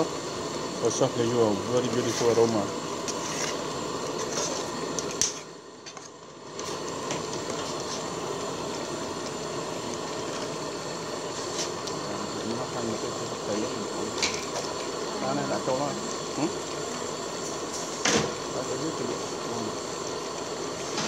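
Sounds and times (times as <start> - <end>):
gas burner hissing: 0.0 - 21.0.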